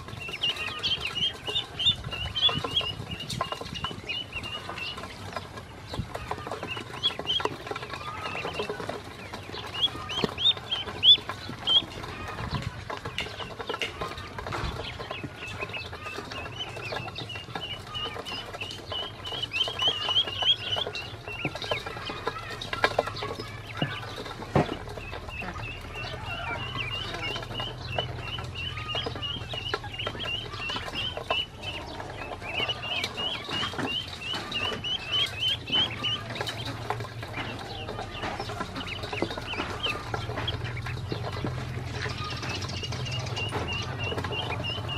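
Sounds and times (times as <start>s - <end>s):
bills pecking metal bowl: 0.0s - 44.9s
ducklings peeping: 0.0s - 44.9s.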